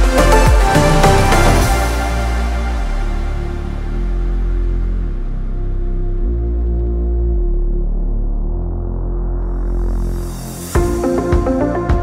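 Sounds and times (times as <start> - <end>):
deep bass line: 0.0 - 12.0
slow sustained chords: 0.0 - 12.0.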